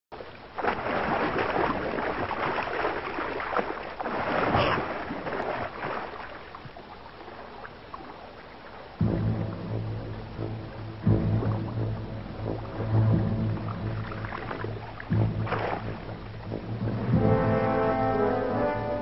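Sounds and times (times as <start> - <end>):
river water splashing and churning: 0.1 - 19.0.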